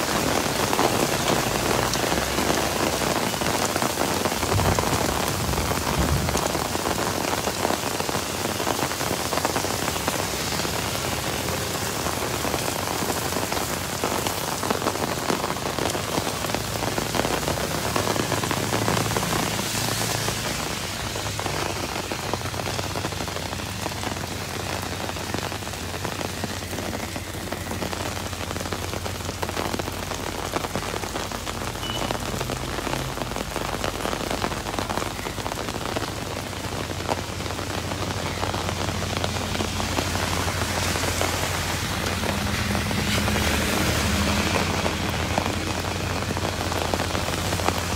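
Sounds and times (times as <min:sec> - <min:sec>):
heavy rain and hail on street: 0:00.0 - 0:47.9.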